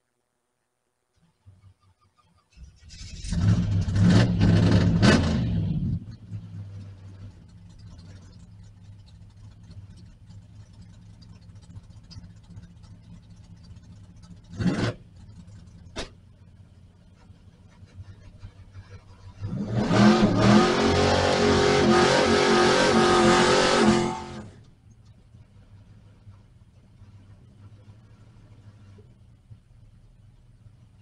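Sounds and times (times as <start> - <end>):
diesel engine starting and idling: 2.4 - 31.0.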